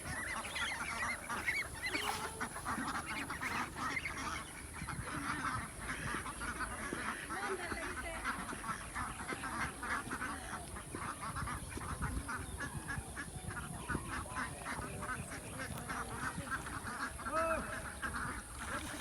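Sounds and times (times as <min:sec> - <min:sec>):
ducks quacking: 0:00.0 - 0:19.0.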